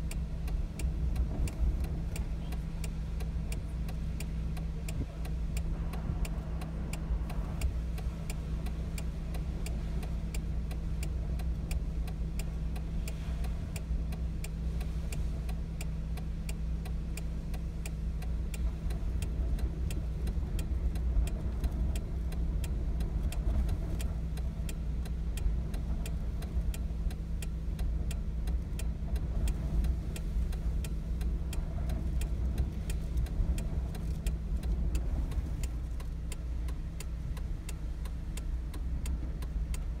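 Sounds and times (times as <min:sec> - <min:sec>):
car engine running: 0:00.0 - 0:40.0
regular ticking: 0:00.0 - 0:40.0.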